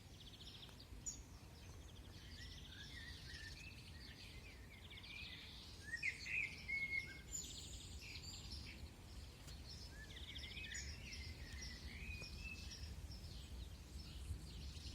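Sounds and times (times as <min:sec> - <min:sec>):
songbirds chirping and whistling: 0:00.0 - 0:14.9.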